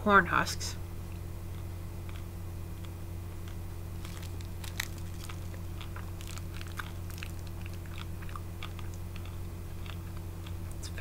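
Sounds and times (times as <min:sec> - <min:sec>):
low hum: 0:00.0 - 0:11.0
chewing crunches: 0:01.5 - 0:10.9.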